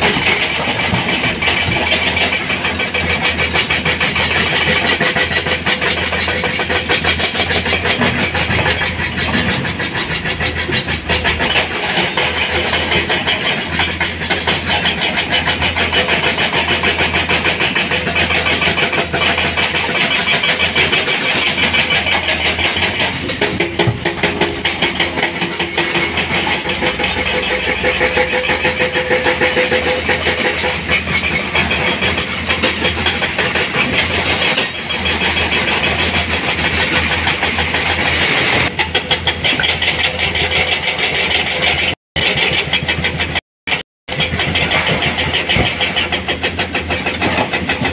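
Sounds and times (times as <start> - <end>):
excavator diesel engine chugging: 0.0 - 47.9.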